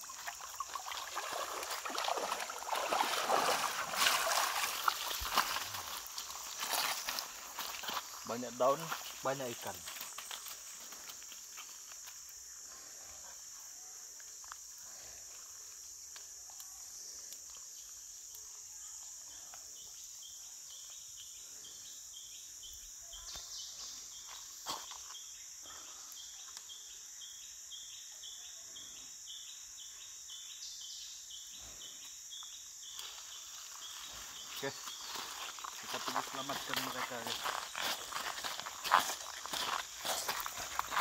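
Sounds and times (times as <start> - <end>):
high drone of insects: 0.0 - 41.0
pulsing insect call: 0.0 - 41.0.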